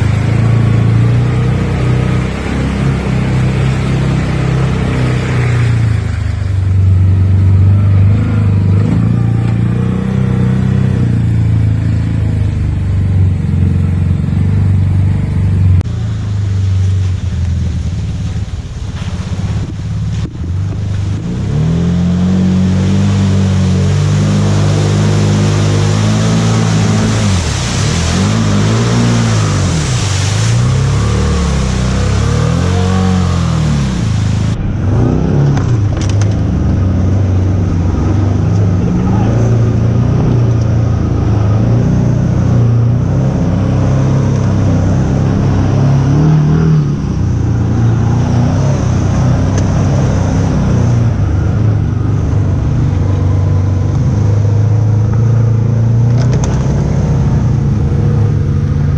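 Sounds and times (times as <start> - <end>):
engine revving: 0.0 - 18.4, 19.2 - 58.9
steady engine drone: 0.0 - 58.9
water and mud splashing: 0.0 - 58.9.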